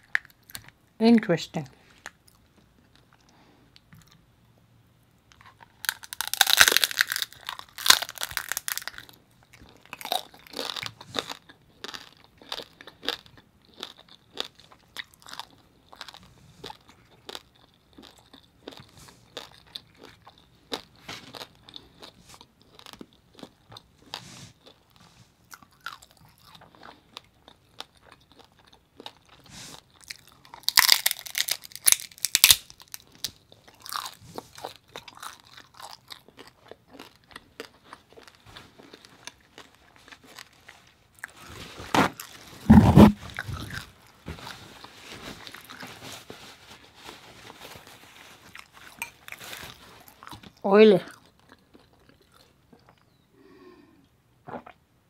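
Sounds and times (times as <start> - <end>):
chewing and crunching: 1.9 - 4.3, 5.3 - 53.2.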